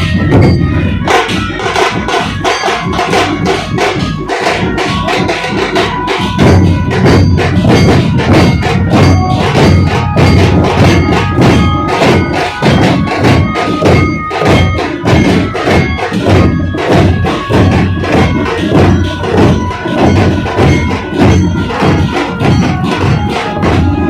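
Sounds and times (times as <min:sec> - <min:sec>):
drum troupe playing fast rhythm: 0:00.0 - 0:24.0.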